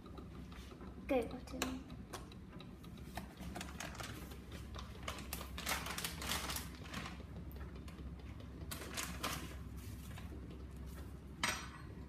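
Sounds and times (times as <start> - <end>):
coffee maker low hum: 0.0 - 12.0.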